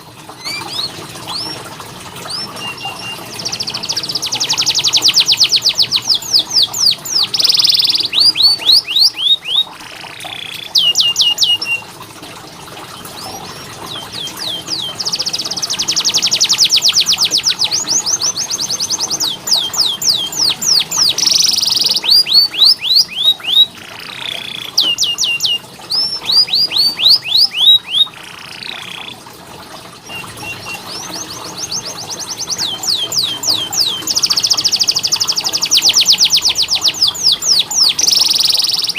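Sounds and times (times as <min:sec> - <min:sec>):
canary singing: 0:00.3 - 0:11.9, 0:13.0 - 0:29.2, 0:30.0 - 0:38.9.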